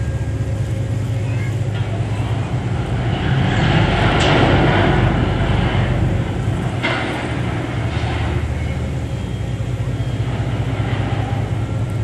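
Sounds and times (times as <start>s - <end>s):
ferry engine low rumble: 0.0s - 12.0s
rushing noise: 0.0s - 12.0s.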